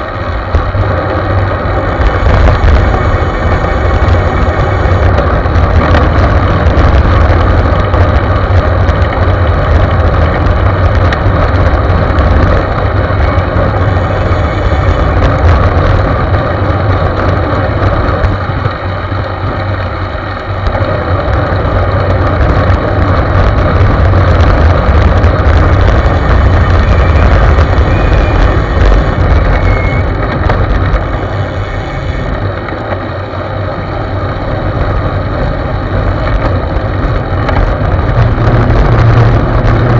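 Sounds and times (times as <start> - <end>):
tyre and road noise: 0.0 - 39.9
wind rushing over microphone: 0.0 - 39.9.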